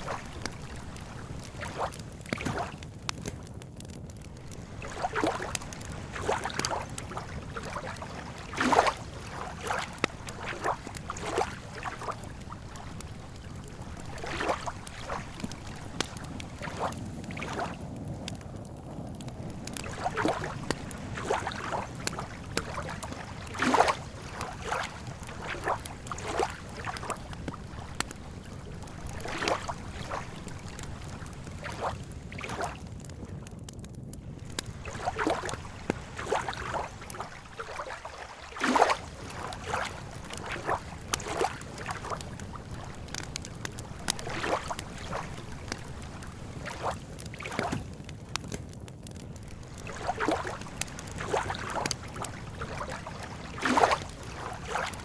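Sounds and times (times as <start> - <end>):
lake water lapping: 0.0 - 3.3, 4.4 - 18.2, 19.4 - 32.8, 34.3 - 48.1, 49.4 - 55.0
campfire crackling and popping: 0.0 - 55.0.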